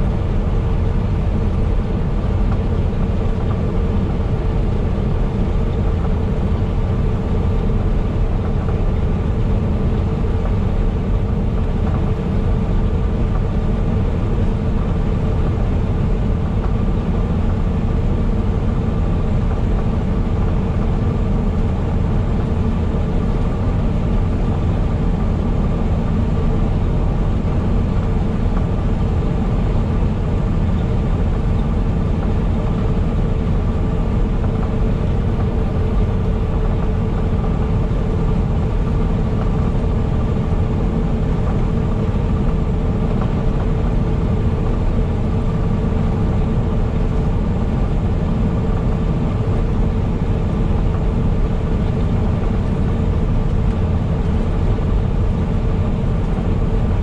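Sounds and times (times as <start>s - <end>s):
truck engine drone: 0.0s - 57.0s.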